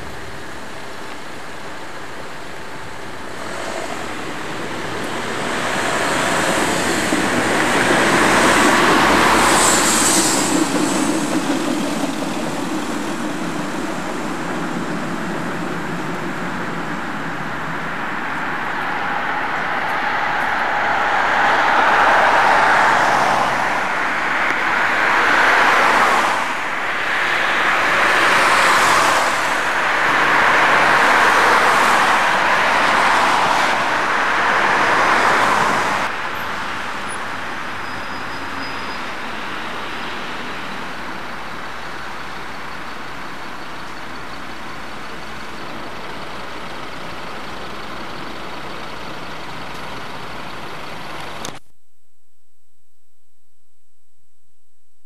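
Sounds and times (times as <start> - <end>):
steady traffic hum: 0.0 - 51.7
vehicles passing close by: 0.2 - 51.6.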